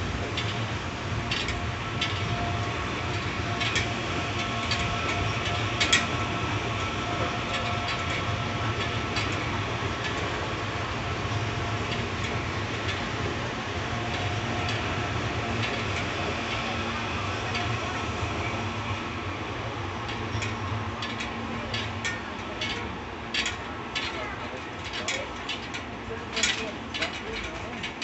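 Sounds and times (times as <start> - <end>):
sharp clicks of train wheels: 0.0 - 28.0
train low rumble: 0.0 - 28.0.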